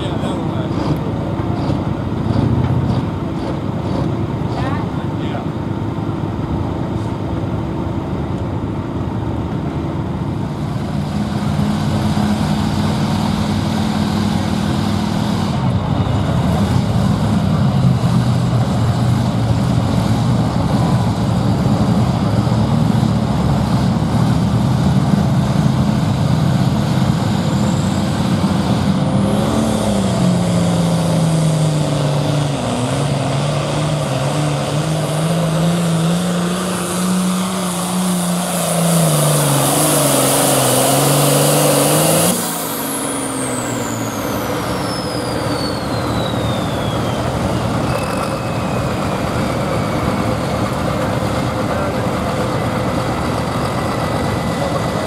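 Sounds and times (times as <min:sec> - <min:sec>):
tractor diesel engines revving: 0:00.0 - 0:55.0.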